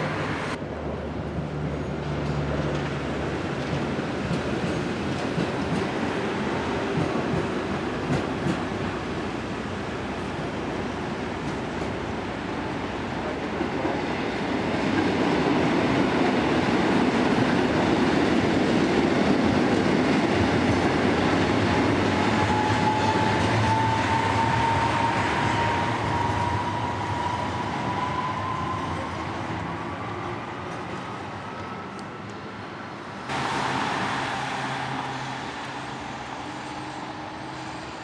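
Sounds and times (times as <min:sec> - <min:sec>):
rumble of wheels on rails: 0:00.0 - 0:32.7.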